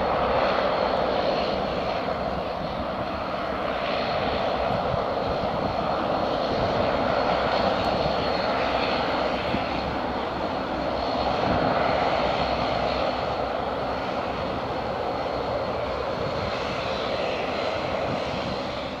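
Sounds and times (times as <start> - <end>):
jet engines rumbling at takeoff: 0.0 - 19.0.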